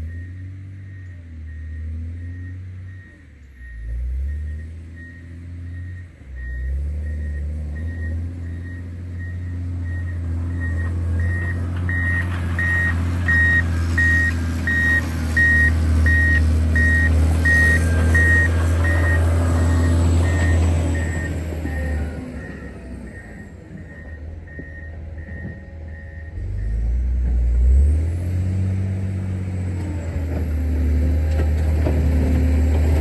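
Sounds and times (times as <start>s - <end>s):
reversing alarm beeping: 0.0s - 27.0s
diesel engine running: 0.0s - 33.0s.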